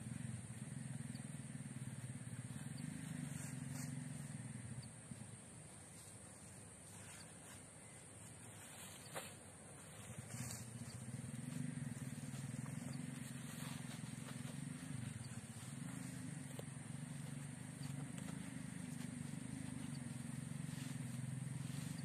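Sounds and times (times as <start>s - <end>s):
low engine drone: 0.0s - 8.1s, 9.7s - 22.0s.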